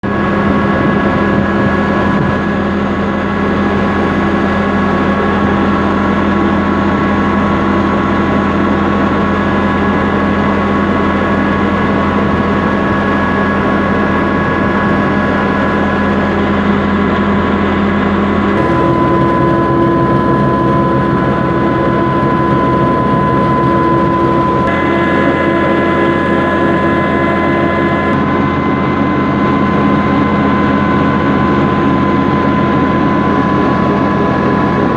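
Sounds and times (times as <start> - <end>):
grinding mill machine hum: 3.5 - 34.9.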